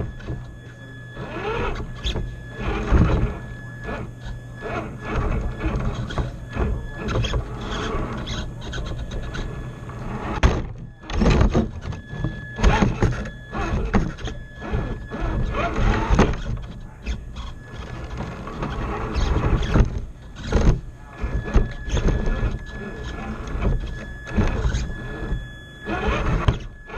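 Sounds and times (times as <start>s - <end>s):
whining electric drivetrain: 0.0s - 26.9s.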